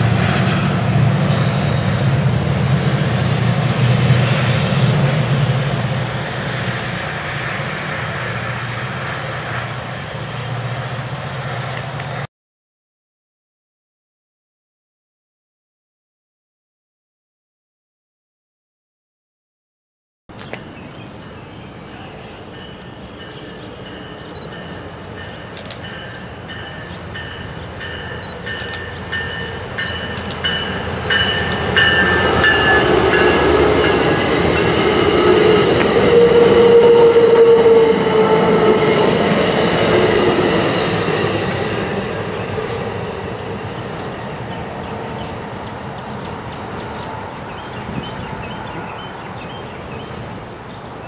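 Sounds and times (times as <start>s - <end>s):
diesel train passing: 0.0s - 12.3s, 20.3s - 51.0s.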